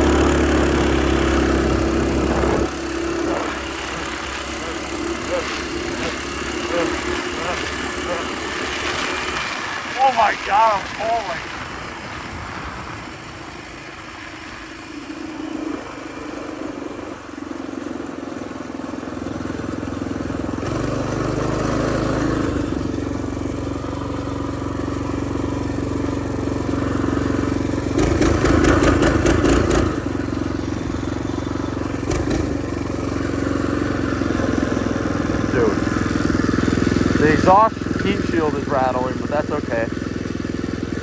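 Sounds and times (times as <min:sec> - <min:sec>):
mini bike engine running: 0:00.0 - 0:41.0.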